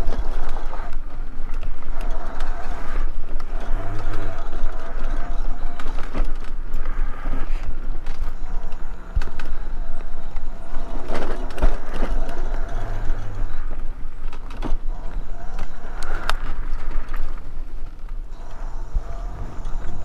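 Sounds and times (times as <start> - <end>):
mobility scooter motor whine: 0.0 - 20.0.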